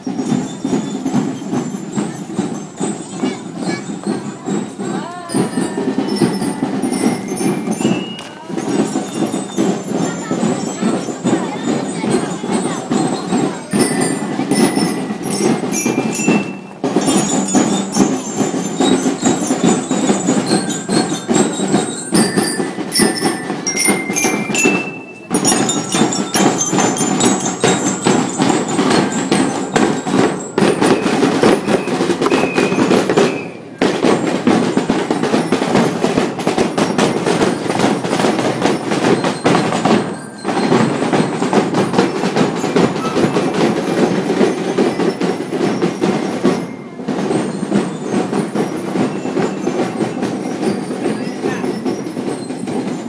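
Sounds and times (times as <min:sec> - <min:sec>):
bell-lyre melody: 0:00.0 - 0:53.0
snare drums beating a march: 0:00.0 - 0:53.0.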